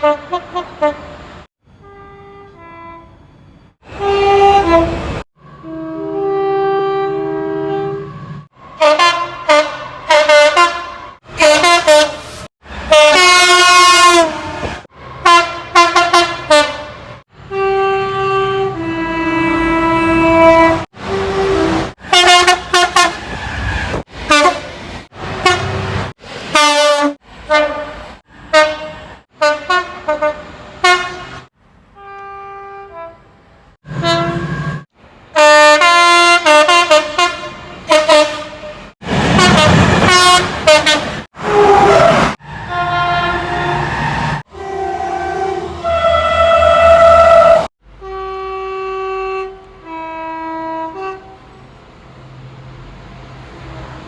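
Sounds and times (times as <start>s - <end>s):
train horns two-tone blasts: 0.0s - 23.7s, 24.3s - 51.6s.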